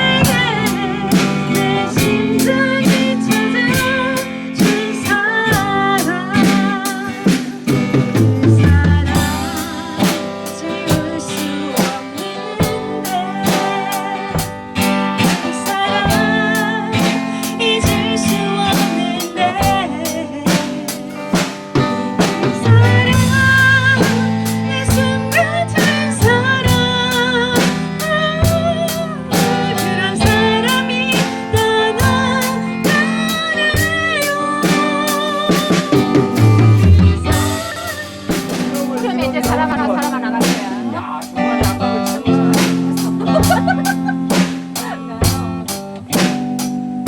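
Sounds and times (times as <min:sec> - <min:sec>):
song with drums guitar and vocals: 0:00.0 - 0:47.0.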